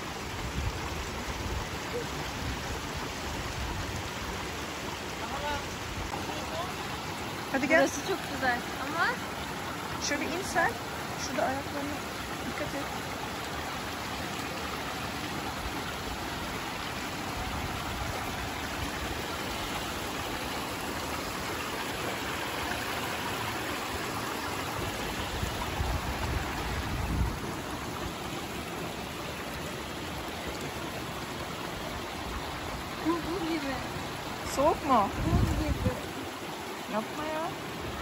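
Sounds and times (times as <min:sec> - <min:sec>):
stream running over rocks: 0:00.0 - 0:38.0.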